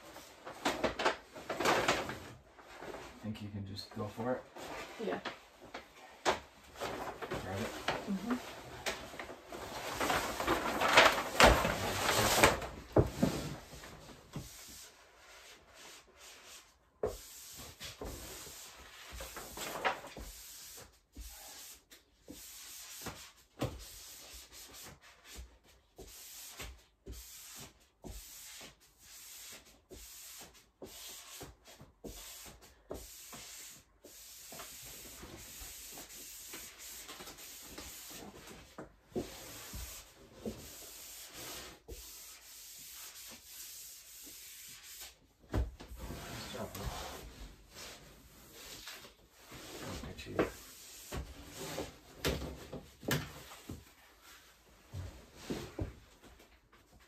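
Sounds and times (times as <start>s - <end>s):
wallpaper rubbing and scraping: 0.0s - 57.0s.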